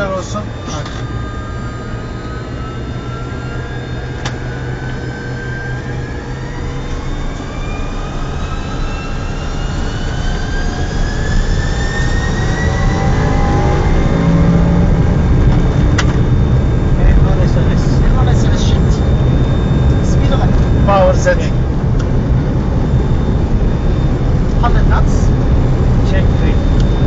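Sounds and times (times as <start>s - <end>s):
jet engines spooling up: 0.0s - 27.0s.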